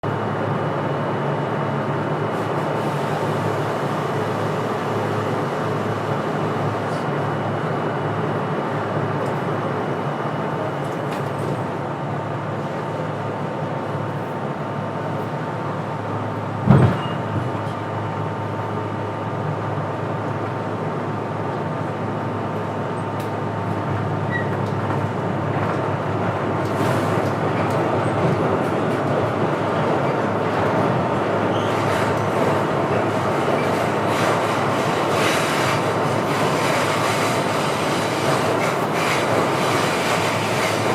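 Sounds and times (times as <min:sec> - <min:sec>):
train rumbling: 0:00.0 - 0:40.9.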